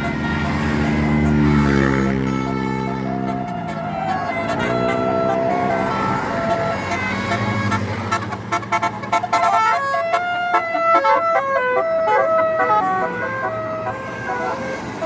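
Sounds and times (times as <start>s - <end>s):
bus engine running: 0.0s - 15.0s
bus horn playing a tune: 0.0s - 15.0s.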